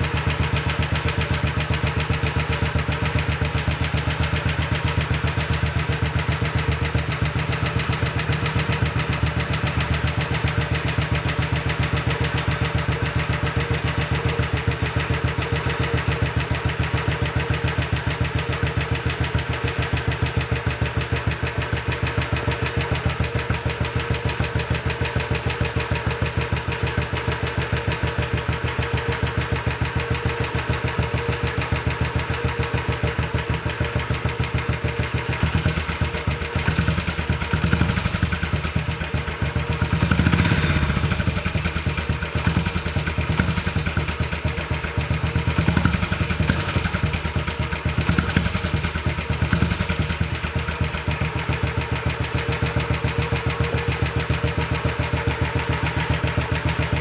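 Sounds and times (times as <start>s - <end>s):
minibike engine idling and revving: 0.0s - 57.0s.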